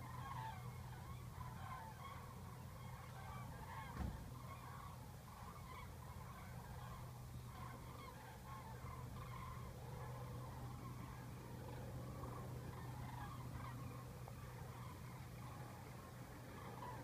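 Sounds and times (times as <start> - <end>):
cranes trumpeting in flight: 0.0 - 17.0
low steady hum: 0.0 - 17.0.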